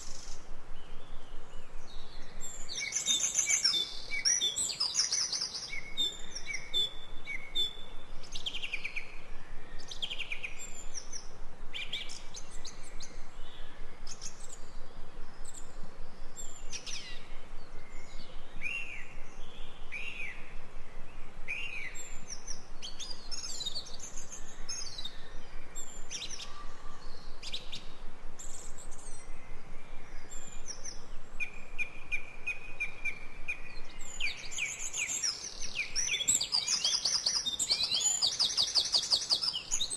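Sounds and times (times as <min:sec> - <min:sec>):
downward-sweeping whistled bird notes: 0:00.0 - 0:39.9
forest birds chirping: 0:00.0 - 0:39.9.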